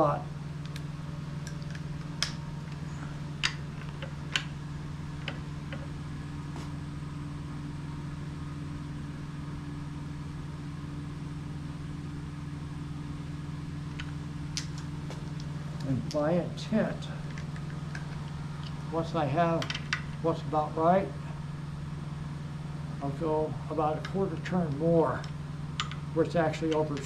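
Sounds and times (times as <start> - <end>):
low electrical fan hum: 0.0 - 27.0.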